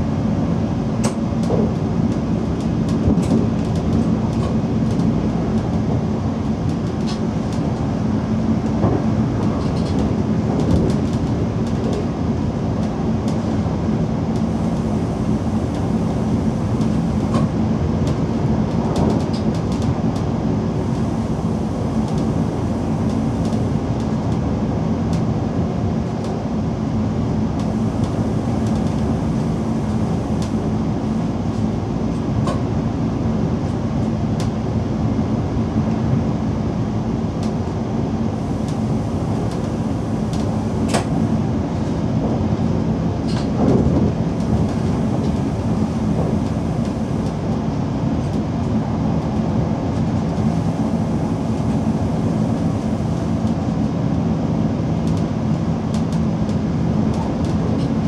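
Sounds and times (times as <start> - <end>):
train low hum: 0.0 - 58.0.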